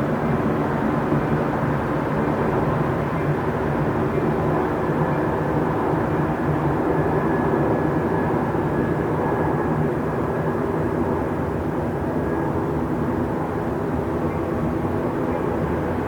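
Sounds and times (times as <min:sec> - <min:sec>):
low rumble of machinery: 0:00.0 - 0:16.0.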